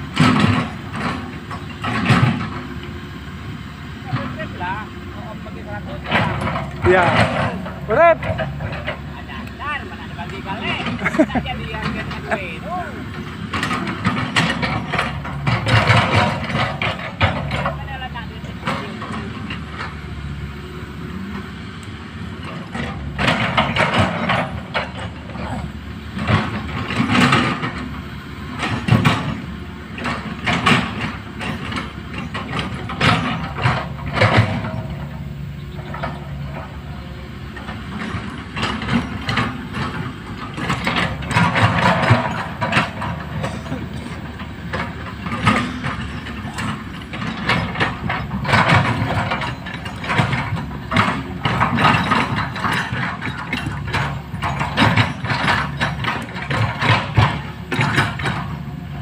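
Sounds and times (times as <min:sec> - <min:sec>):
metallic clanking and rattling: 0:00.0 - 0:02.8, 0:04.0 - 0:20.0, 0:22.2 - 0:59.0
excavator diesel engine running: 0:00.0 - 0:59.0.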